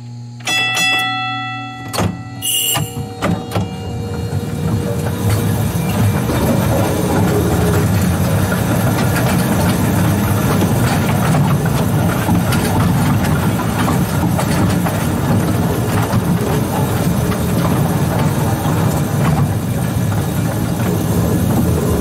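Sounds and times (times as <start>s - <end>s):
locomotive drone: 0.0s - 22.0s
wheels clicking over rail joints: 0.5s - 22.0s.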